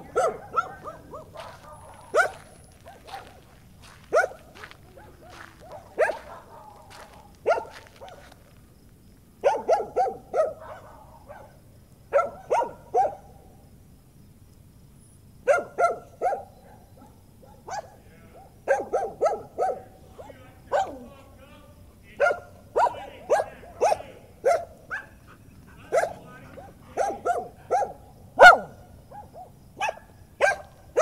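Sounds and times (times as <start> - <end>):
dogs barking: 0.0 - 8.5, 9.4 - 13.6, 15.4 - 21.4, 22.1 - 31.0.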